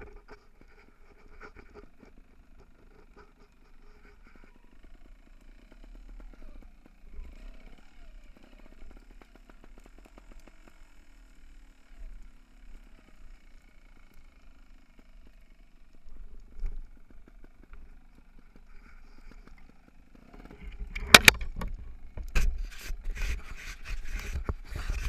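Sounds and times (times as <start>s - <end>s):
bike rattling and clicking: 0.0s - 25.0s.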